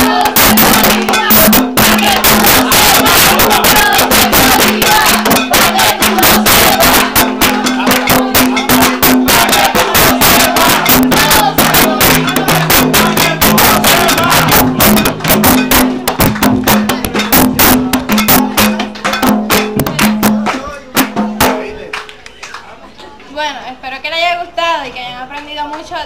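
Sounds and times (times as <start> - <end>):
frame drums beating fast rhythm: 0.0 - 22.0.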